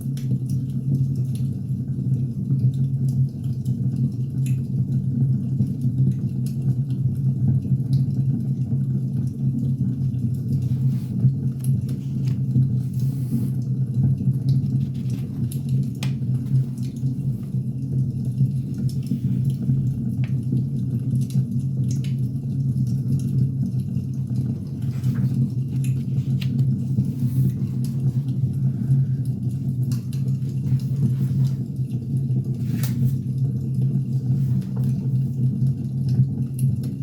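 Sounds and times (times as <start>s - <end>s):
low fire rumble: 0.6s - 37.0s.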